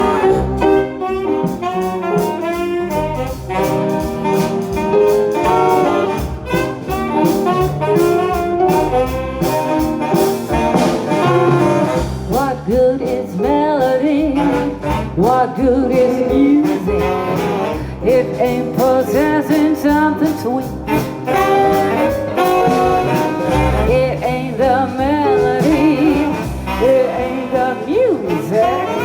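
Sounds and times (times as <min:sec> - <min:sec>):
bass: 0:00.0 - 0:29.0
drums: 0:00.0 - 0:29.0
saxophones playing swing: 0:00.0 - 0:29.0.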